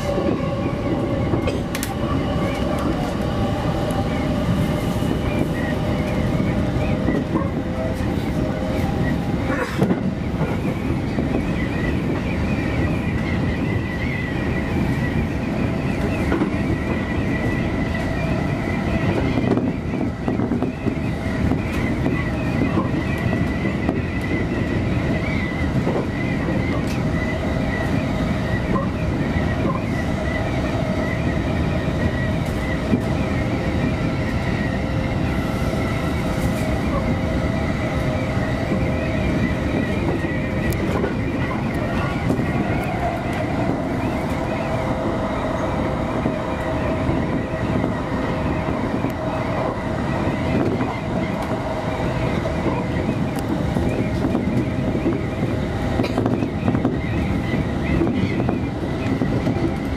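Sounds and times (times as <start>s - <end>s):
rumble of train wheels on rail: 0.0s - 59.9s.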